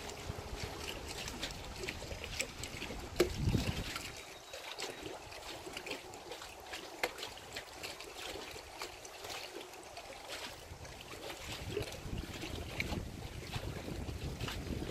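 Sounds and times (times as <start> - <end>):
low rumble of wind on microphone: 0.0 - 14.9
small waves lapping on shore: 0.0 - 14.9.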